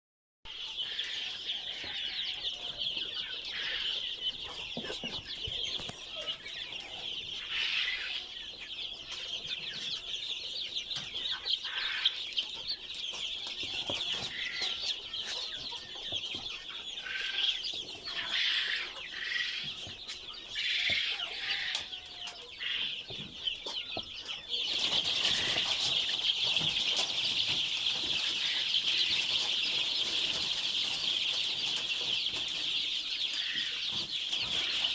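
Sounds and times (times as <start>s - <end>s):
chickens peeping and clucking: 0.5s - 34.9s.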